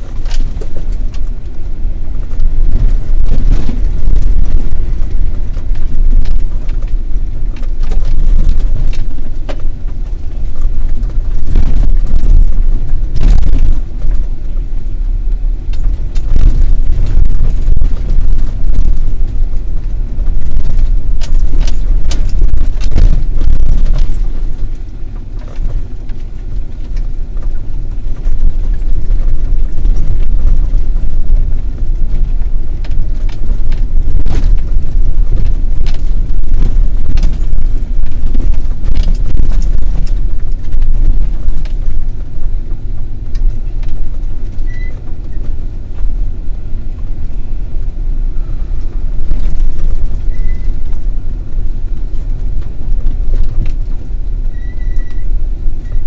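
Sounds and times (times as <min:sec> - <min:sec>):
vehicle engine and road rumble: 0:00.0 - 0:56.0
vehicle knocking and rattling: 0:00.0 - 0:56.0.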